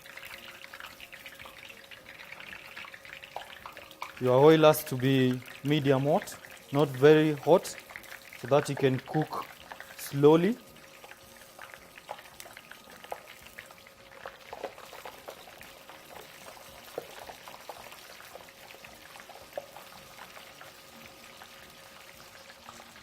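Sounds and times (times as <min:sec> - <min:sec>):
chicken frying in oil: 0:00.0 - 0:23.0.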